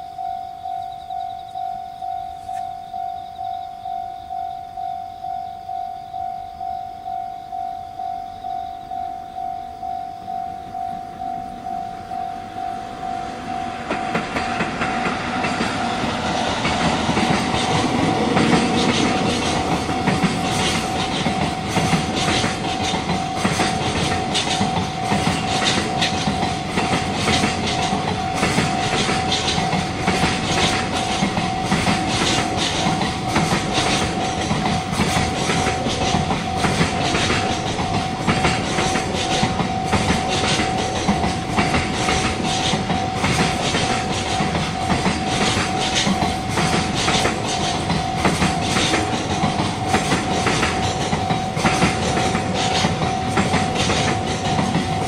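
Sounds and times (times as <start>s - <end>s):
level-crossing bell dinging: 0.0s - 55.0s
train wheels clacking on rails: 8.5s - 55.0s.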